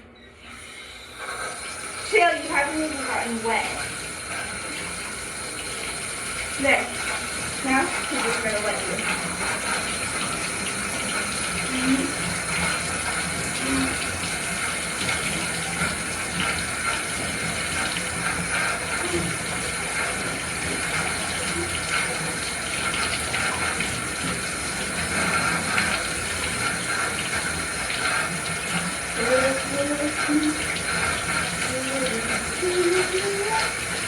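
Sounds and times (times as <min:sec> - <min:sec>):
tap water running into a tub: 0:00.4 - 0:34.0.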